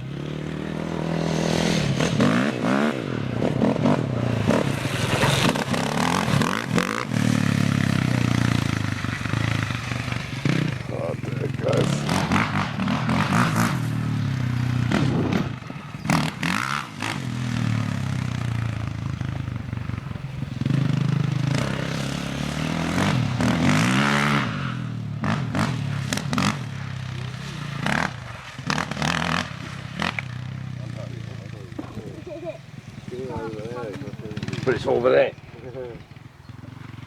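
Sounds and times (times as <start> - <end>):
pit bike engine revving: 0.0 - 37.0.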